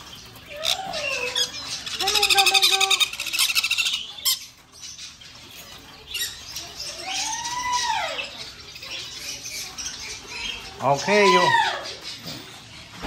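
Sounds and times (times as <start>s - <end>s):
parrot squawking and calling: 0.0s - 5.2s, 6.1s - 12.6s.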